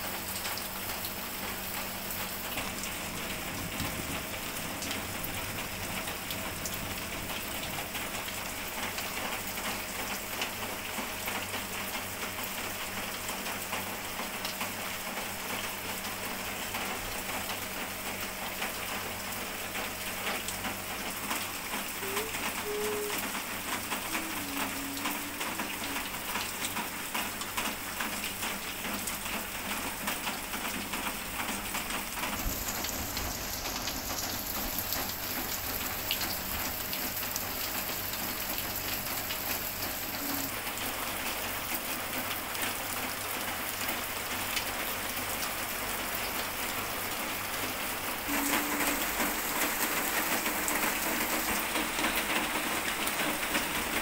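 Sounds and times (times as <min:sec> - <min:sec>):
rain patter on a surface: 0:00.0 - 0:54.0.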